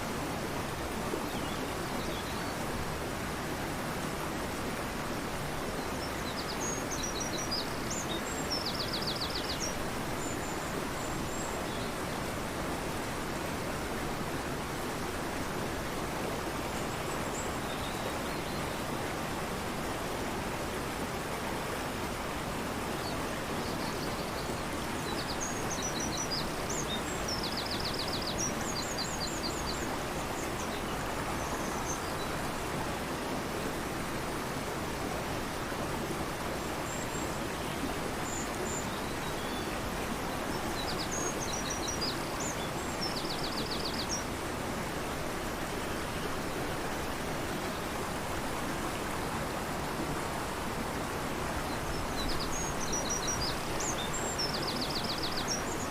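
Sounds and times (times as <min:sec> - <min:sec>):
river rushing: 0:00.0 - 0:55.9.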